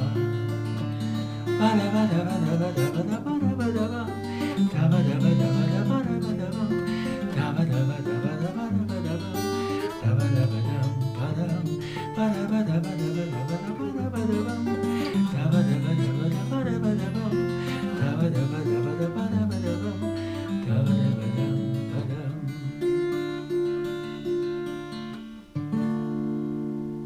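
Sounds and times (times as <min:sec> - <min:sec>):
acoustic guitar chords: 0:00.0 - 0:27.0.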